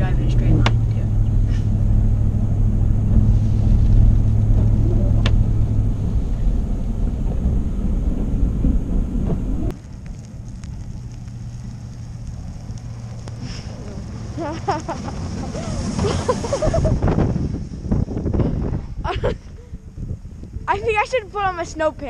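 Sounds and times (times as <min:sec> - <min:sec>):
truck engine drone: 0:00.0 - 0:21.0.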